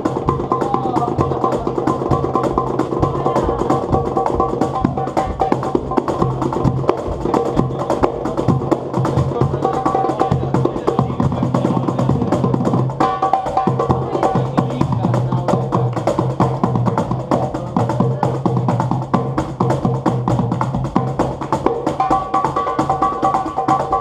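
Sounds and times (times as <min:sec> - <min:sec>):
fast clicking percussion: 0:00.0 - 0:24.0.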